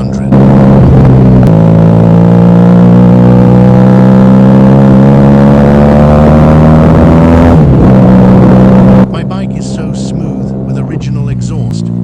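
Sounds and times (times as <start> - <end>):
motorcycle engine running loud: 0.0 - 12.0.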